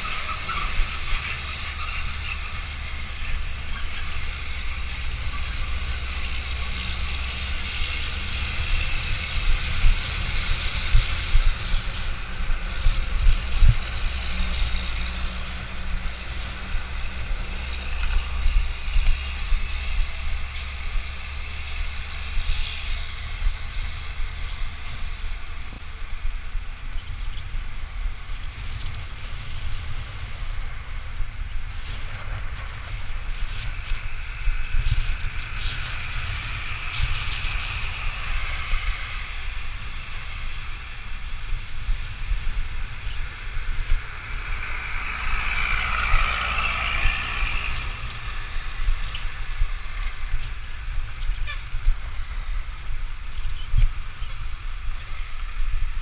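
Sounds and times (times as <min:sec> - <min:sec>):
passing traffic: 0:00.0 - 0:56.0
wind buffeting microphone: 0:00.0 - 0:56.0.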